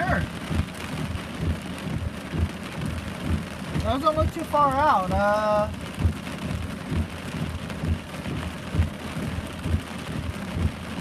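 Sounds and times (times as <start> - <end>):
heavy rain falling: 0.0 - 11.0
low thumps: 0.2 - 4.4, 5.1 - 11.0.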